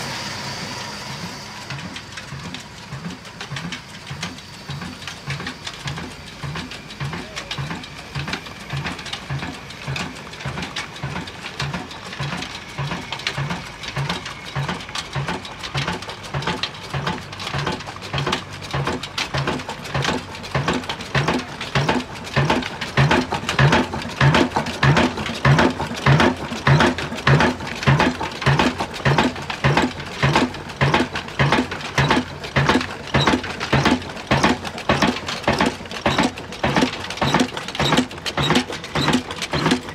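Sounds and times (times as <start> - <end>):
diesel engine beating slowly: 0.0 - 39.9.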